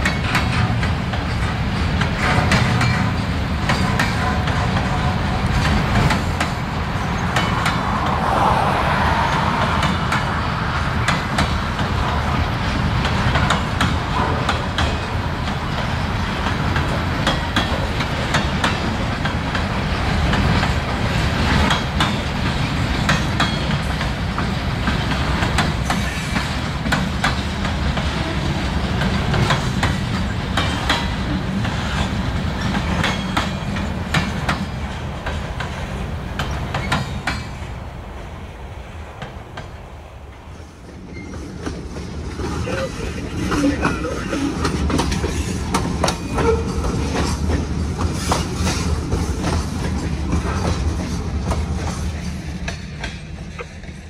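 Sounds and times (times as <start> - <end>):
wheels clicking on rails: 0.0 - 8.8, 9.4 - 54.0
train wheels rumbling: 0.0 - 54.0.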